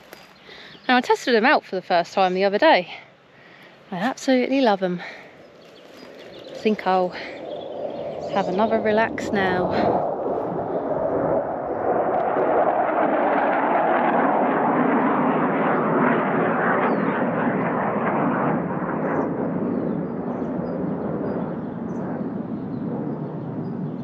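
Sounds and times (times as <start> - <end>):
aircraft passing overhead: 0.0 - 24.0.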